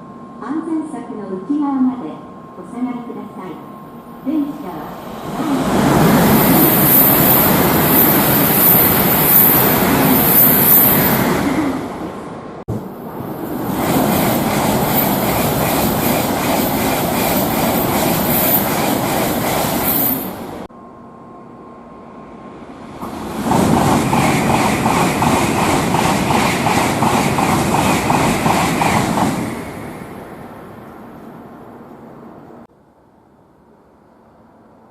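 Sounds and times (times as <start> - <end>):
high-speed trains rushing past: 1.9 - 32.8.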